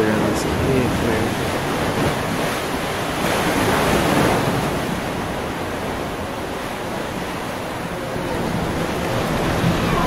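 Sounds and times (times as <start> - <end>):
ocean surf on rocks: 0.0 - 10.0.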